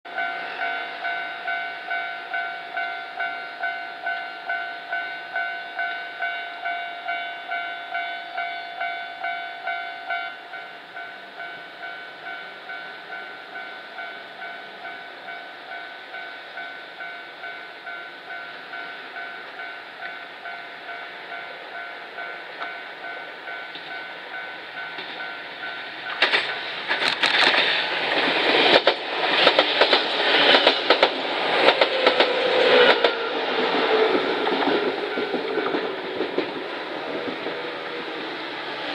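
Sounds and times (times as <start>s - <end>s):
electric train passing: 0.1s - 38.9s.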